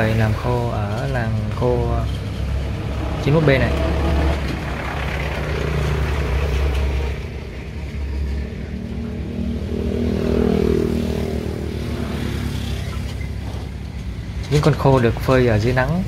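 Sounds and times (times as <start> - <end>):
vehicle engine passing by: 0.0 - 16.0.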